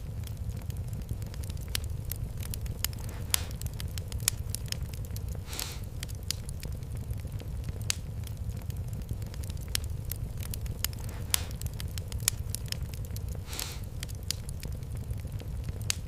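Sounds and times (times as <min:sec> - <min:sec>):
fireplace fire crackling: 0:00.0 - 0:16.0
low rumble: 0:00.0 - 0:16.0.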